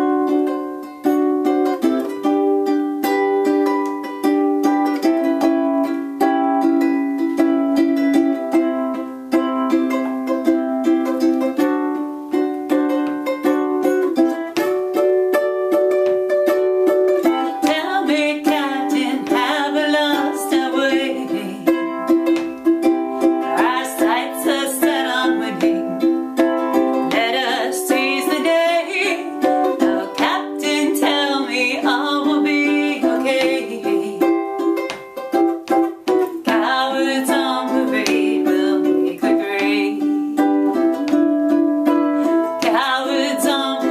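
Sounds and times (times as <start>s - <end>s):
ukulele strumming: 0.0s - 43.9s.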